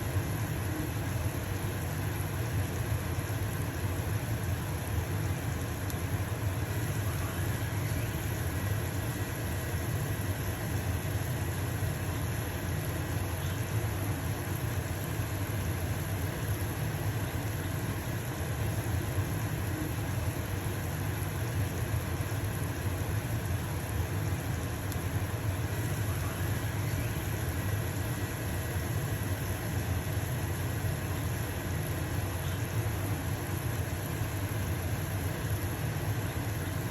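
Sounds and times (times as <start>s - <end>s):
pancake sizzling in a frying pan: 0.0s - 36.9s
range hood fan hum: 0.0s - 36.9s.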